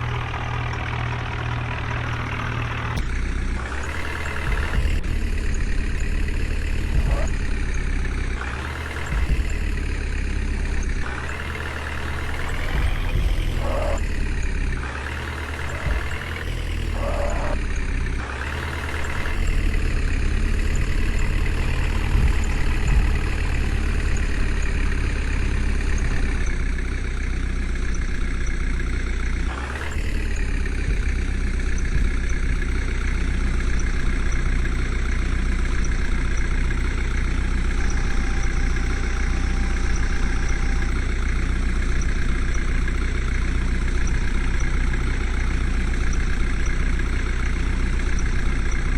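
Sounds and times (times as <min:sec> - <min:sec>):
diesel engine revving: 0:00.0 - 0:48.9.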